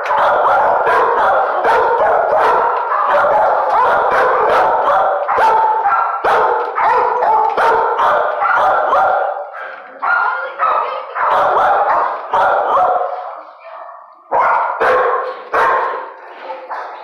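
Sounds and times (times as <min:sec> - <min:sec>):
many dogs barking: 0:00.0 - 0:17.0.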